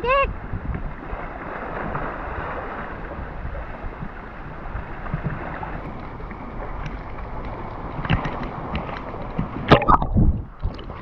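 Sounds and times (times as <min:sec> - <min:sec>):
sea water sloshing: 0:00.4 - 0:11.0.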